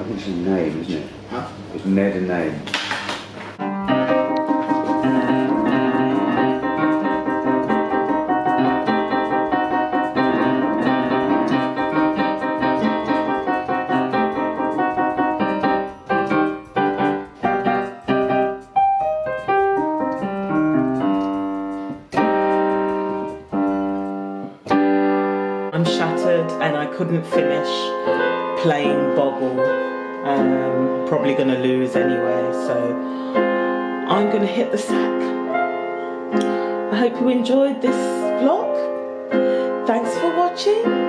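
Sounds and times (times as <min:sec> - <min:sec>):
piano music: 0:03.6 - 0:41.0.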